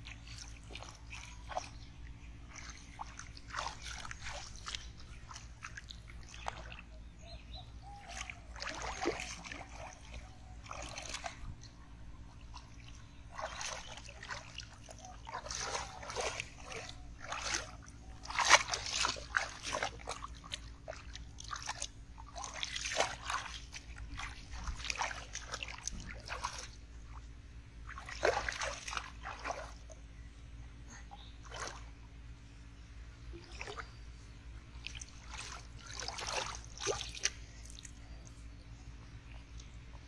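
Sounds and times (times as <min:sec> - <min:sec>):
muddy water splashing: 0:00.0 - 0:30.2, 0:31.0 - 0:32.1, 0:33.1 - 0:40.0.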